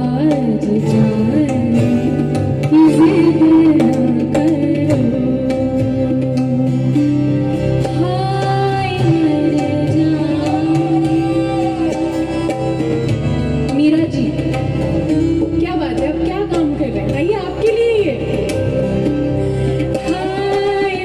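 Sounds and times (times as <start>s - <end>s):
woman singing: 0.0s - 13.0s, 13.7s - 14.6s, 15.5s - 19.0s, 19.7s - 21.0s
bowed string instrument: 0.0s - 21.0s
keyboard: 0.0s - 21.0s
tabla strokes: 0.0s - 21.0s.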